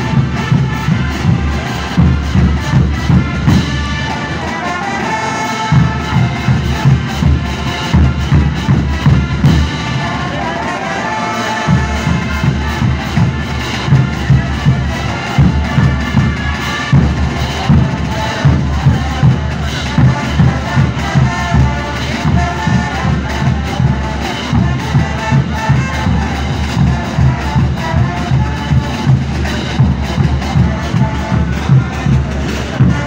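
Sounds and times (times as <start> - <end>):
brass marching band playing: 0.0 - 33.0.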